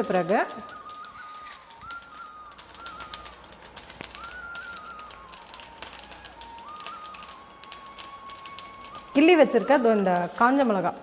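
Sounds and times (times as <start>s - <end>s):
seeds popping in hot oil: 0.0s - 11.0s
thin wavering high tone: 0.0s - 11.0s.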